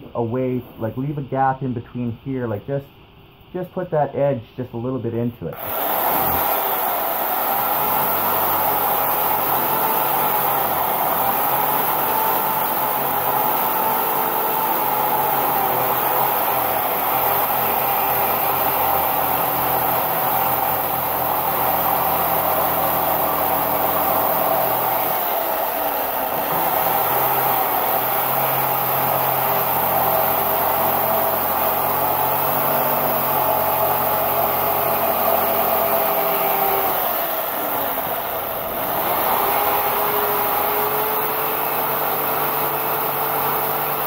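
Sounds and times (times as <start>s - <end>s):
electric jigsaw cutting foam: 5.6s - 44.0s.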